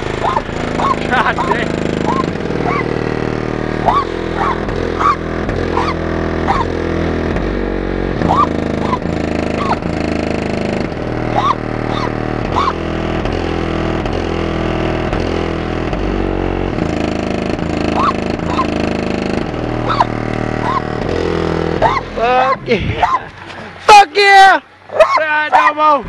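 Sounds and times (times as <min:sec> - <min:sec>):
bass-heavy music: 0:00.0 - 0:26.0.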